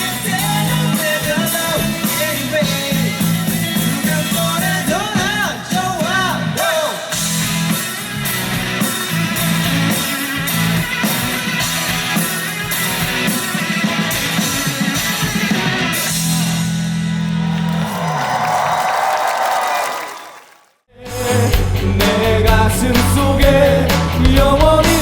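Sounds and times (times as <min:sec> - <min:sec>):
drum kit beat: 0:00.0 - 0:16.6, 0:21.1 - 0:25.0
electric guitars: 0:00.0 - 0:17.9, 0:21.0 - 0:25.0
bass guitar: 0:00.0 - 0:18.0, 0:20.9 - 0:25.0.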